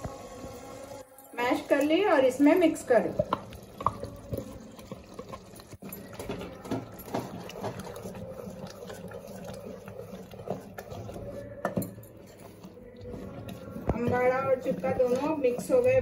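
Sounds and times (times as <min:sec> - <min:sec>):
spoon stirring in metal pot: 0:01.1 - 0:16.0.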